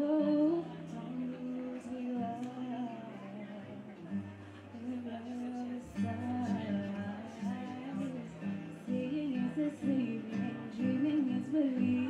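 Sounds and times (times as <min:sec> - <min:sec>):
acoustic guitar strumming: 0:00.8 - 0:12.0.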